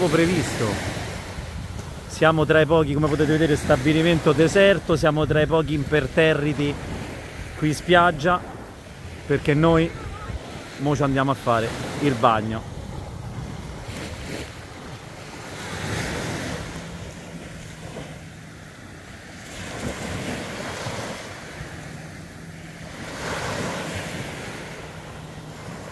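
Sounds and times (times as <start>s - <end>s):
waves breaking on shore: 0.0s - 25.9s
wind buffeting microphone: 0.0s - 25.9s.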